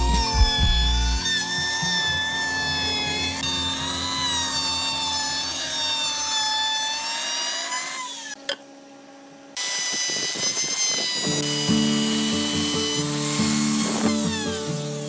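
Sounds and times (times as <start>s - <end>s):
router cutting wood: 0.0s - 8.6s, 9.6s - 15.0s.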